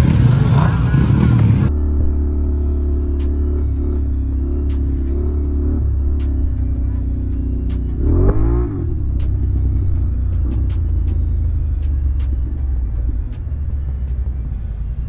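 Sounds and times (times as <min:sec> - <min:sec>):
atv engine running: 0:00.0 - 0:15.0
engine revving: 0:00.0 - 0:15.0.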